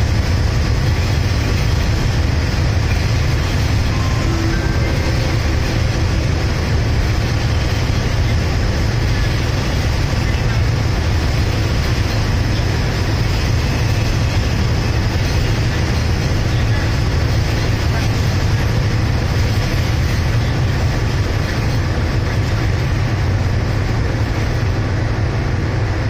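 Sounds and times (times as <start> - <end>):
diesel locomotive idling: 0.0 - 26.0.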